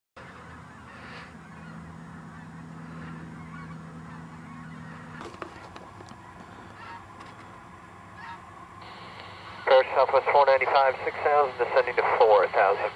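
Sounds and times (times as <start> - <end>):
distant honking bird calls: 0.2 - 12.9
steady low hum: 0.2 - 12.9.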